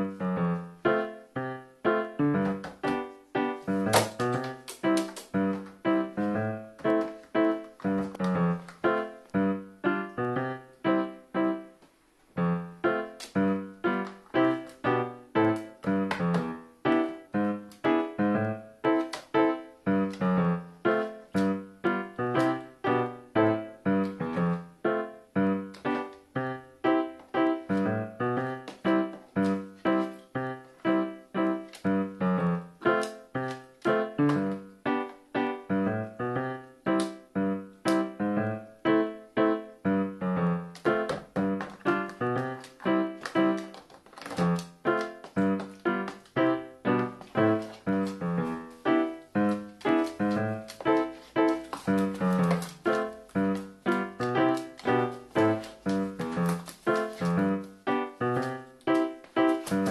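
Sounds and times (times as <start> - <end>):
keyboard music: 0.0 - 11.8, 12.4 - 59.9.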